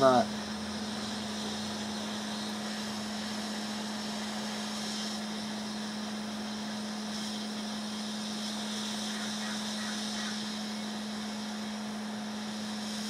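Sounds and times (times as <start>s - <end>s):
hot air blower running: 0.0s - 13.0s.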